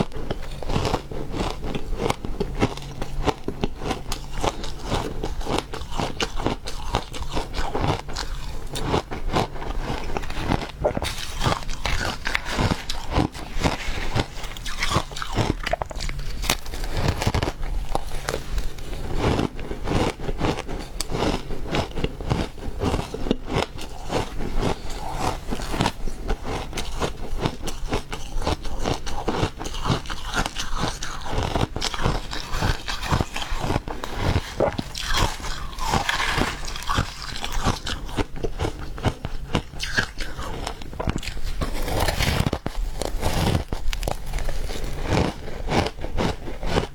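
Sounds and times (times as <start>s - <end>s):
ice crunching between teeth: 0.0s - 46.9s.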